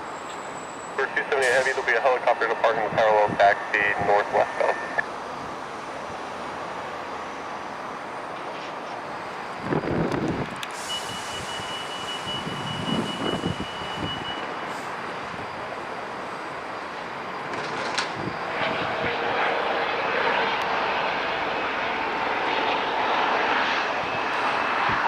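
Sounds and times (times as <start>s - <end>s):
jet engines rushing with thin whine: 0.0s - 25.0s.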